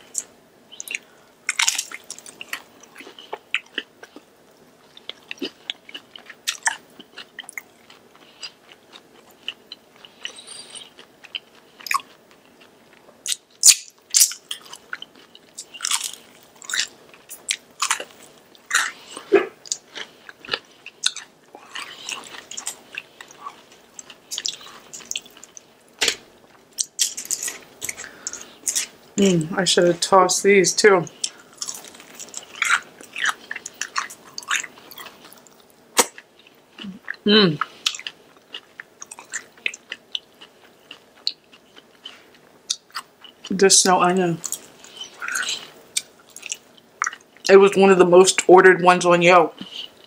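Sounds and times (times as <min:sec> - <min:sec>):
crunchy chewing of fried chicken: 0:00.0 - 0:29.0, 0:31.1 - 0:43.6, 0:44.4 - 0:47.5, 0:49.6 - 0:50.0.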